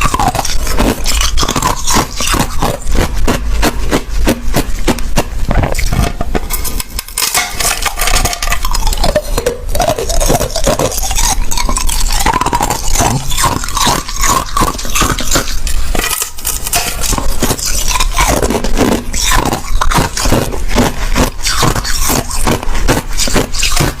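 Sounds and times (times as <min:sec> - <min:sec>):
crushed ice being chewed: 0:00.0 - 0:24.0.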